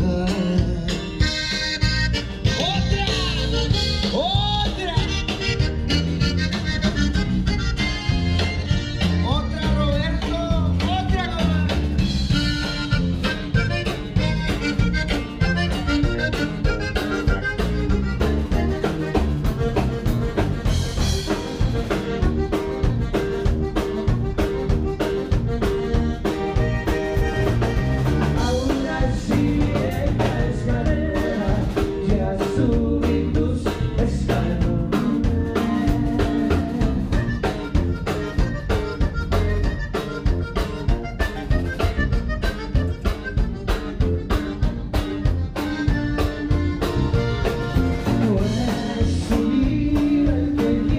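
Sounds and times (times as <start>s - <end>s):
button accordion melody: 0.0s - 50.9s
electric bass: 0.0s - 50.9s
guitar: 0.0s - 50.9s
steady drum beat: 0.0s - 50.9s.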